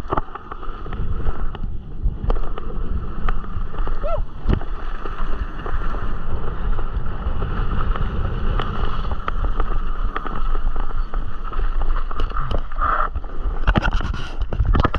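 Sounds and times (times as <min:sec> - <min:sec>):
bike rattling over bumps: 0:00.0 - 0:14.9
bike tyres rolling on dirt: 0:00.0 - 0:14.9
wind rushing over microphone: 0:00.0 - 0:14.9.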